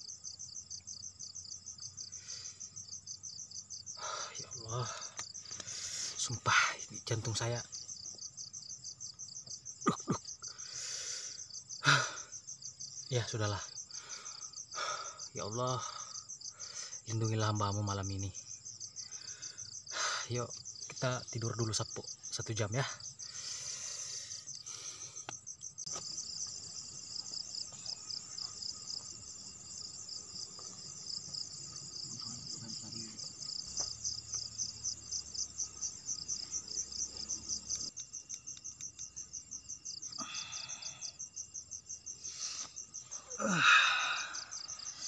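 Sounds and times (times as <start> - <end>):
night insects chirping: 0.0 - 45.0.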